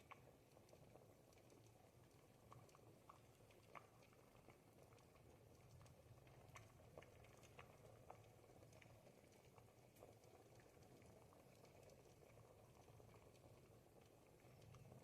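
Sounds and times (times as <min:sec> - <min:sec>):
soup simmering with soft bubbling: 0:00.0 - 0:15.0.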